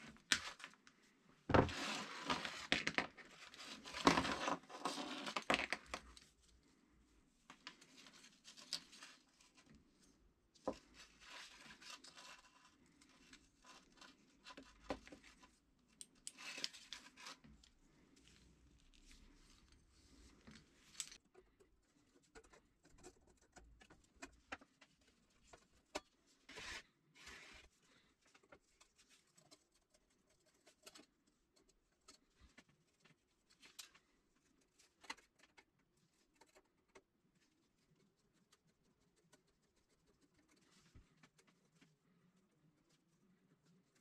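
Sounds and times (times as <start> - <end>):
cables being handled: 0.0 - 44.0.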